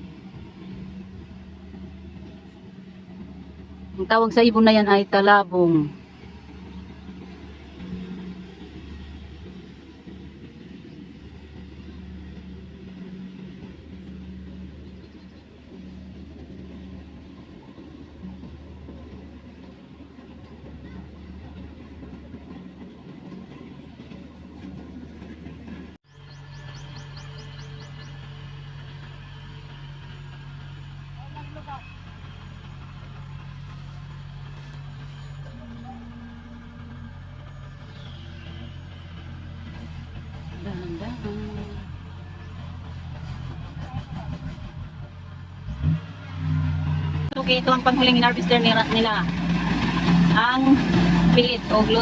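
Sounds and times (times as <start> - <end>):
combine harvester engine drone: 0.0 - 52.0.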